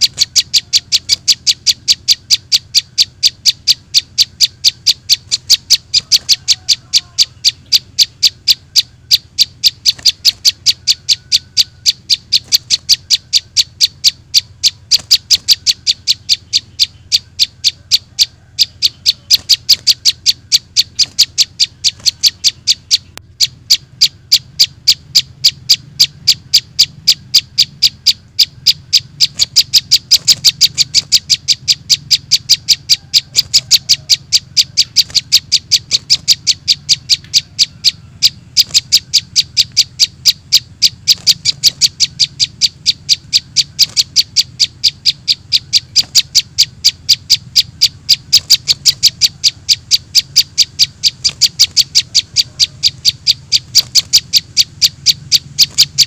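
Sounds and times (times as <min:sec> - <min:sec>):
bird chirps through speaker: 0:00.0 - 0:56.0.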